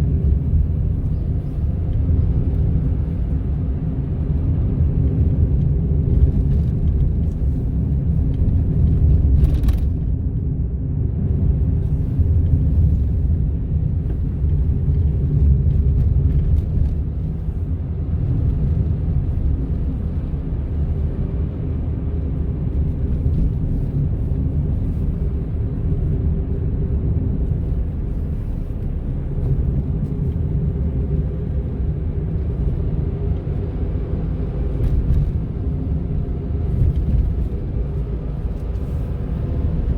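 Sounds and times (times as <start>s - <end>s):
car engine and road rumble: 0.0s - 39.9s
constant hum: 0.0s - 39.9s.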